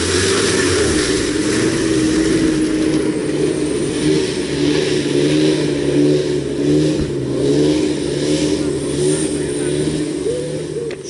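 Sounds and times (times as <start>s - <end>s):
pickup truck engine droning: 0.0s - 11.0s.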